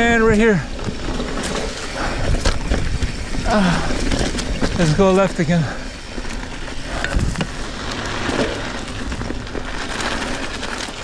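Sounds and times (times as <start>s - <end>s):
bike rattling clicks and knocks: 0.0s - 11.0s
tyres and wind rushing: 0.0s - 11.0s.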